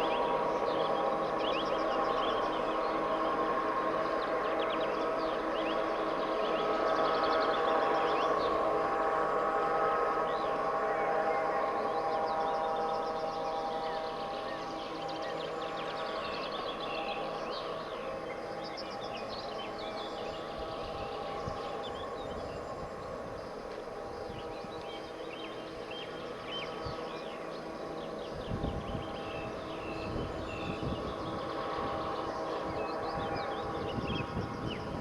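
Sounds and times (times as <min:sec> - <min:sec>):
small birds singing: 0:00.0 - 0:08.6, 0:10.2 - 0:35.0
locomotive engine drone: 0:00.0 - 0:35.0.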